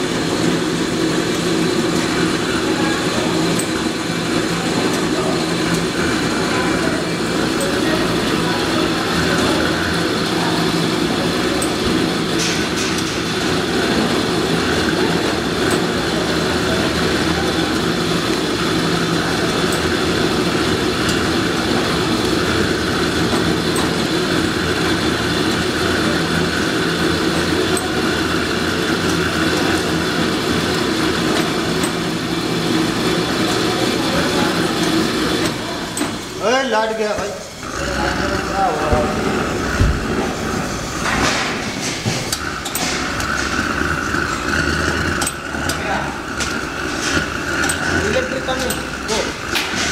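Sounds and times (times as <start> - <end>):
machine mechanical hum: 0.0 - 49.9.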